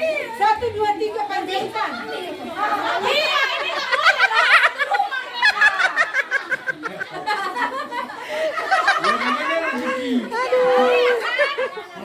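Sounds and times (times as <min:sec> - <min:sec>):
children chattering: 0:00.0 - 0:12.0
children laughing: 0:01.6 - 0:12.0.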